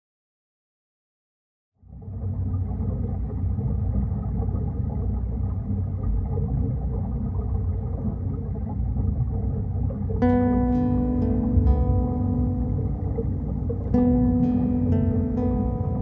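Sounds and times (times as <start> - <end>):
muffled underwater rumble: 1.8 - 16.0.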